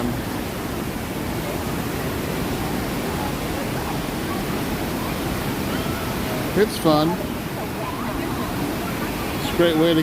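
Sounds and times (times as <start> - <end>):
rushing water of rapids: 0.0 - 10.0.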